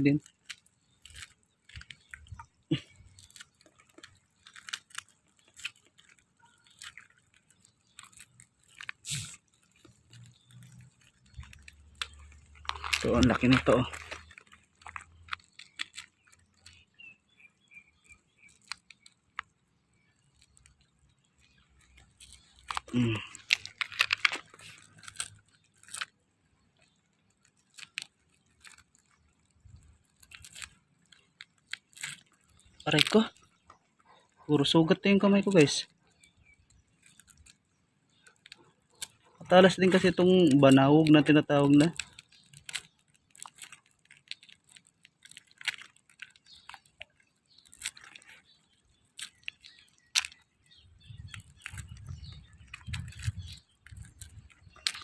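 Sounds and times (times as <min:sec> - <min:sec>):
mussel shells clicking and crunching: 0:00.0 - 0:55.0.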